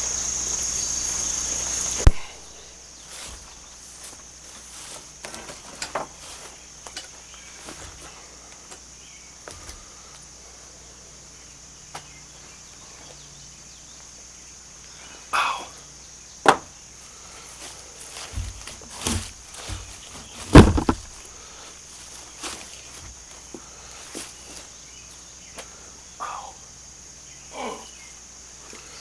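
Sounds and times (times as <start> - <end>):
crickets chirring: 0.0 - 29.0.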